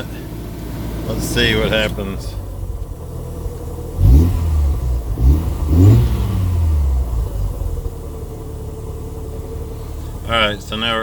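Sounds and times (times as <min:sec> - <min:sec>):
rotary engine revving and idling: 0:00.0 - 0:11.0.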